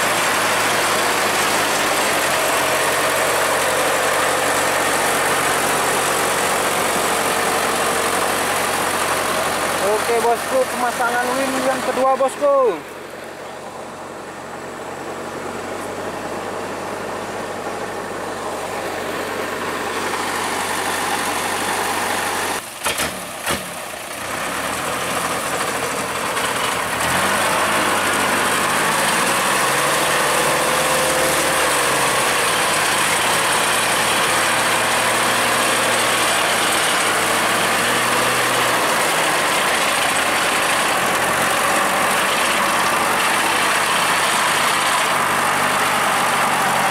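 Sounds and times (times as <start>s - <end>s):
truck engine idling: 0.0s - 46.9s.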